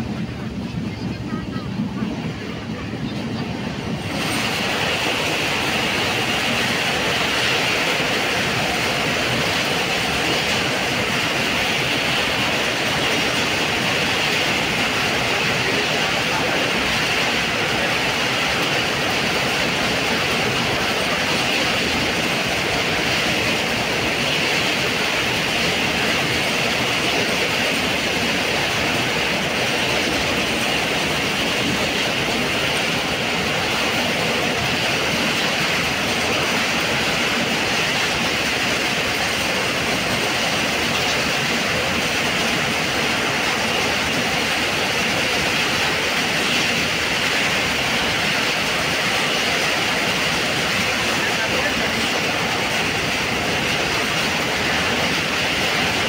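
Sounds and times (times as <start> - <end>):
train running noise inside carriage: 0.0 - 56.0.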